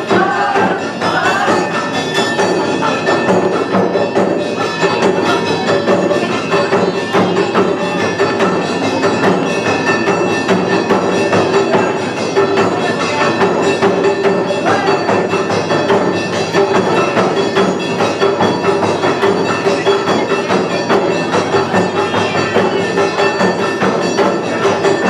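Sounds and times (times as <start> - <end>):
clanging percussion: 0.0 - 25.0
drums: 0.0 - 25.0
festival band music: 0.0 - 25.0.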